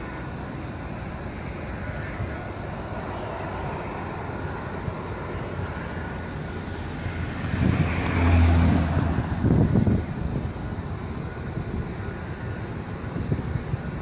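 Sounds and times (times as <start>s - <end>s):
road vehicle passing: 0.0s - 14.0s
steady background rumble: 0.0s - 14.0s.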